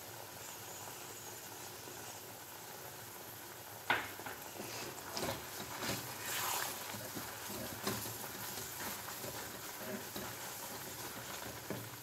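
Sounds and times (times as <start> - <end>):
faint sizzling in pan: 0.0 - 12.0.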